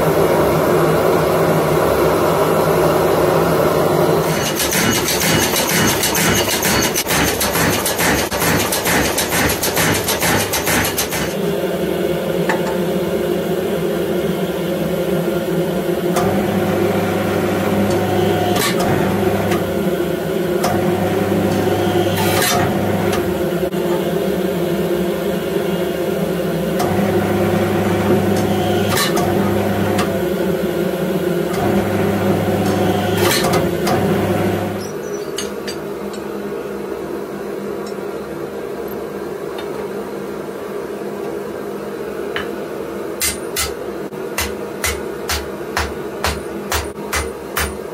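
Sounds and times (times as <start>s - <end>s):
electric machine hum: 0.0s - 47.9s.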